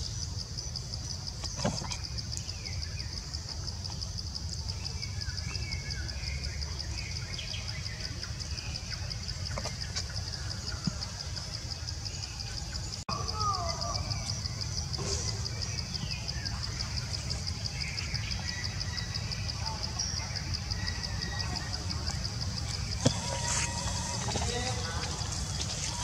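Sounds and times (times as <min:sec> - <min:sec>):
faint bird chirps: 0:00.0 - 0:26.0
high insect drone: 0:00.0 - 0:26.0.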